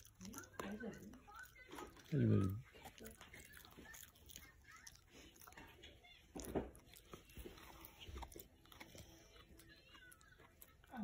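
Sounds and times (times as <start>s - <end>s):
dog gnawing a chew: 0.0s - 11.0s.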